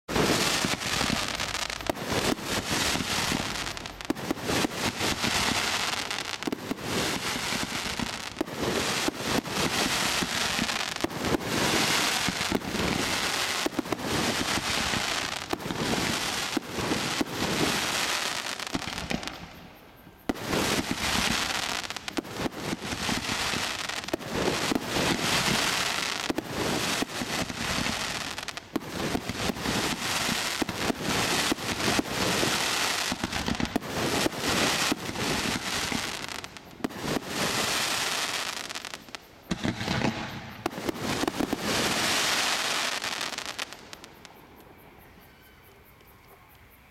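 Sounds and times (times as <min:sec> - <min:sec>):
firework barrage crackling and popping: 0:00.0 - 0:44.3.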